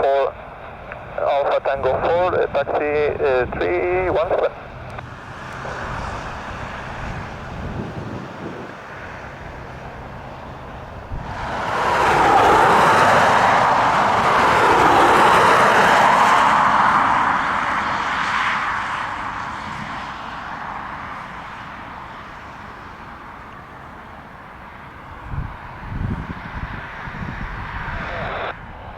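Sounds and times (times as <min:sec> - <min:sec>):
aircraft engines passing: 0:00.0 - 0:28.9.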